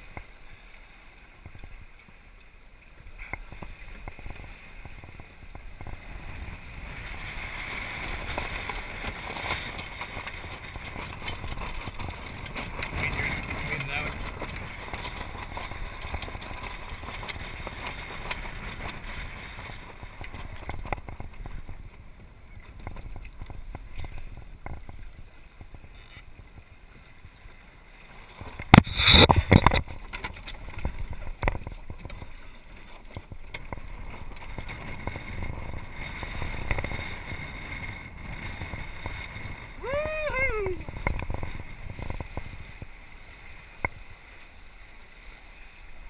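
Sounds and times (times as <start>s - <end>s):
water sloshing along hull: 0.0s - 46.0s.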